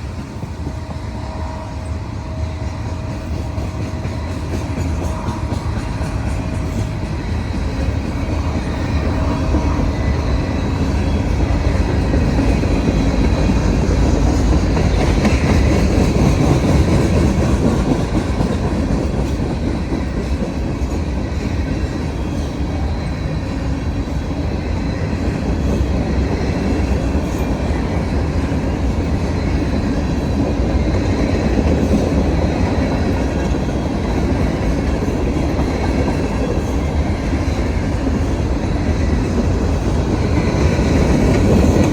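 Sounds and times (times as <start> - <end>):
freight train cars rolling past: 0.0 - 41.9.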